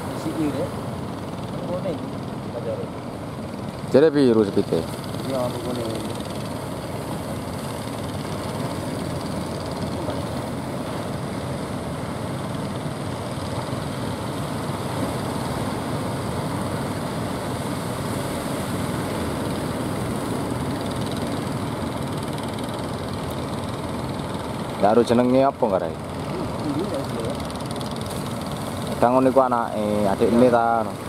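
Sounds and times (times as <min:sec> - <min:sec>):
boat engines offshore: 0:00.0 - 0:31.0
surf on beach: 0:00.0 - 0:31.0.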